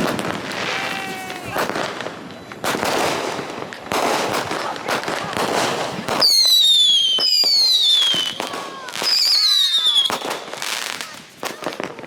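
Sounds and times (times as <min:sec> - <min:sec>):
fireworks whistling: 0:00.0 - 0:12.0.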